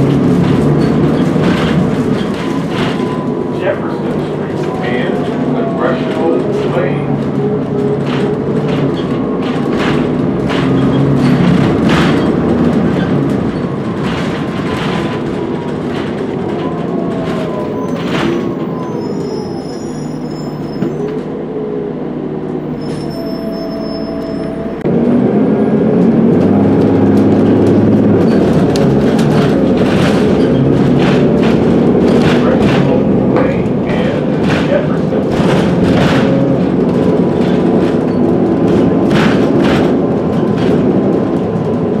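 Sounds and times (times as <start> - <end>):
bus body rattling and knocking: 0.0 - 42.0
bus diesel engine running: 0.0 - 42.0.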